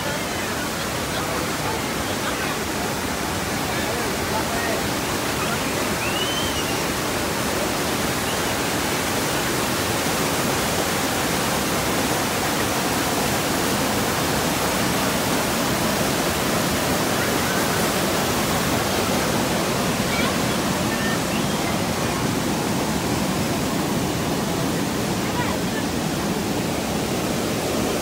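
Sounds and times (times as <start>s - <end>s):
rushing river water: 0.0s - 28.0s.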